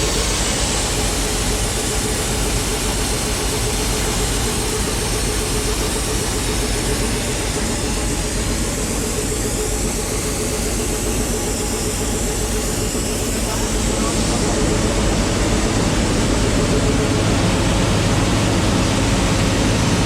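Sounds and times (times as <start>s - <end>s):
crop sprayer engine hum: 0.0s - 20.0s.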